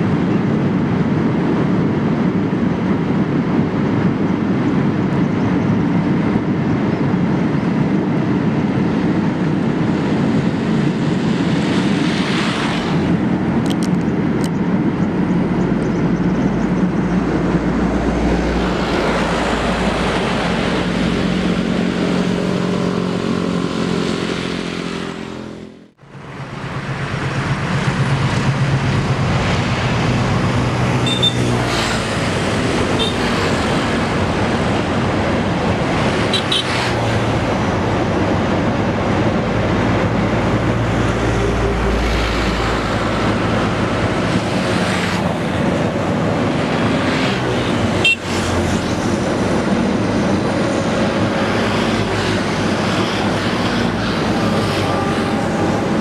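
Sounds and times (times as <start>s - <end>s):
diesel locomotive engine drone: 0.0s - 56.0s
train rumbling: 0.0s - 56.0s.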